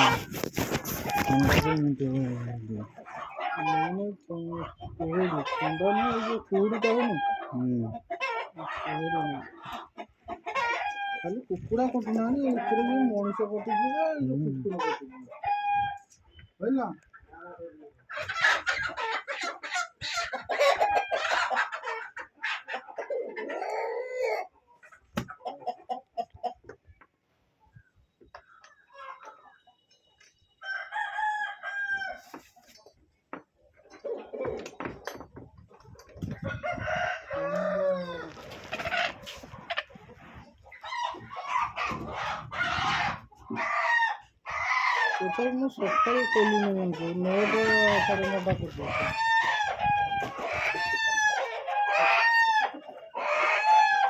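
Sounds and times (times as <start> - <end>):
chickens clucking and squawking: 0.0 - 54.0.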